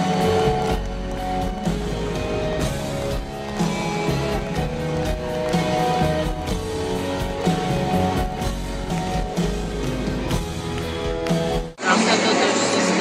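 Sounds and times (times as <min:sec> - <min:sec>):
pop-rock concert music with guitar: 0:00.0 - 0:13.0.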